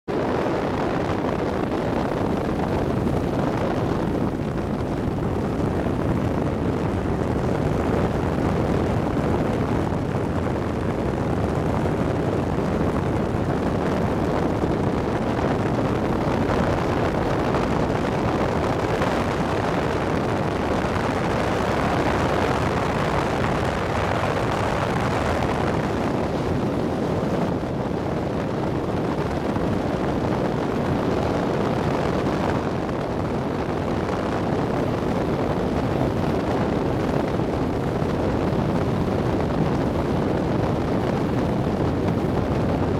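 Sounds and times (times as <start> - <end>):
motorboat engine: 0.1 - 42.9.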